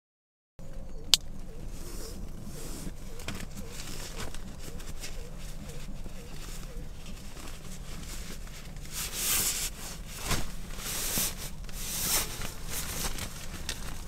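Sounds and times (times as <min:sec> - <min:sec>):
rustling: 0:01.2 - 0:14.0.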